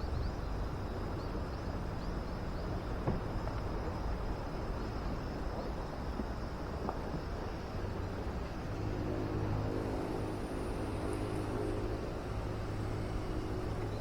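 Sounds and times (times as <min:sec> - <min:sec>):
insect trill: 0:00.0 - 0:14.0.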